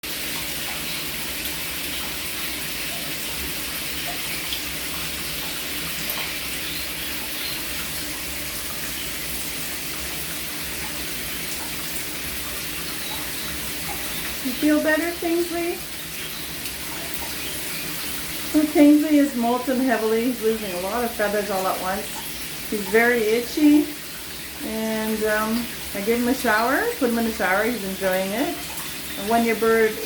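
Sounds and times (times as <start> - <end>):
shower head spraying water: 0.2 - 30.0.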